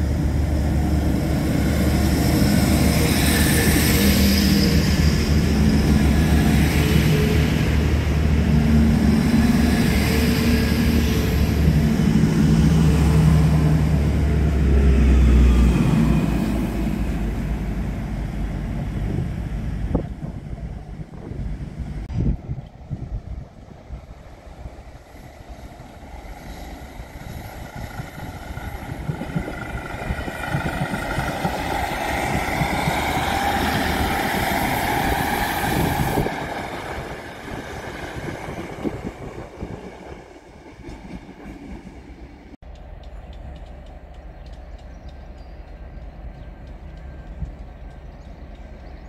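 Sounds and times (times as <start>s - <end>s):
passenger train passing: 0.0s - 49.0s
steady rail noise: 0.0s - 49.0s.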